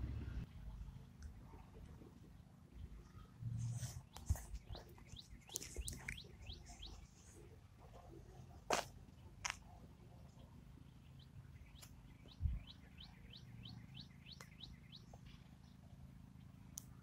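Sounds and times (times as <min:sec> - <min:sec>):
faint low rumble: 0:00.0 - 0:17.0
songbird chirping: 0:00.4 - 0:08.6, 0:09.2 - 0:17.0.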